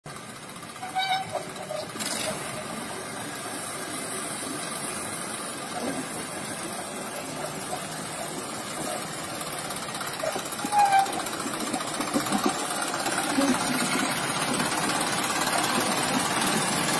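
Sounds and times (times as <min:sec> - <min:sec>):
diesel engine running: 0:00.1 - 0:16.9
wagon rolling on track: 0:00.1 - 0:16.9.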